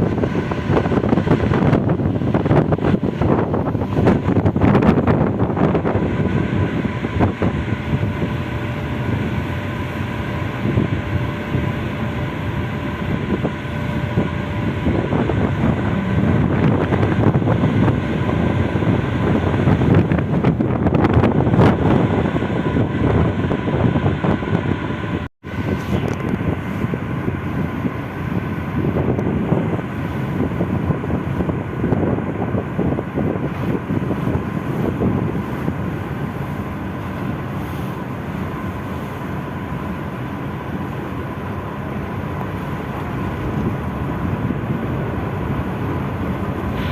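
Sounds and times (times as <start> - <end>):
engine drone: 0.0 - 46.9
wind buffeting microphone: 0.0 - 46.9.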